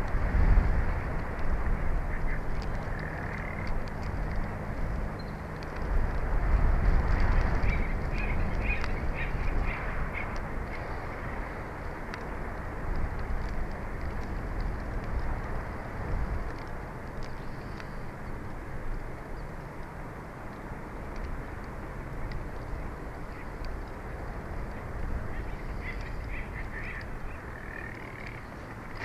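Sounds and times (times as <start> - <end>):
faint high ticks: 0.0 - 29.0
wind on microphone: 0.0 - 29.0.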